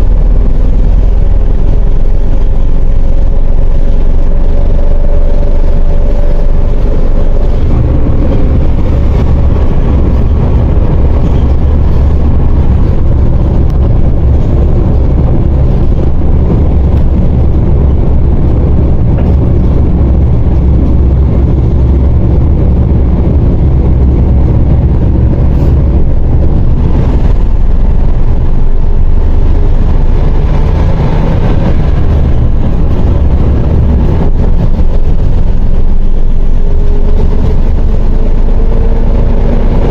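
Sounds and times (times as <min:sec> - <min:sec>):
bus diesel engine rumble: 0:00.0 - 0:39.9
road and body noise: 0:00.0 - 0:39.9.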